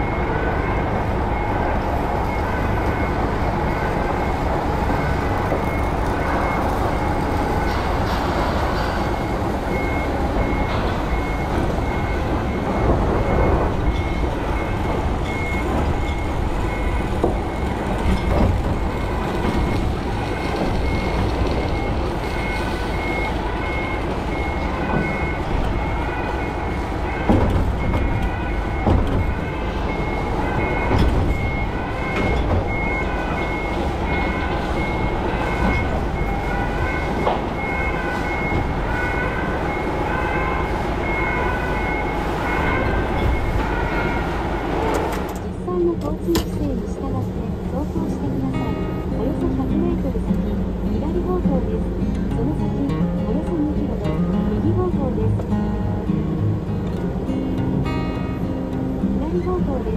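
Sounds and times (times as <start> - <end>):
diesel engine running: 0.0 - 59.9
truck reverse alarm beeping: 0.0 - 59.9.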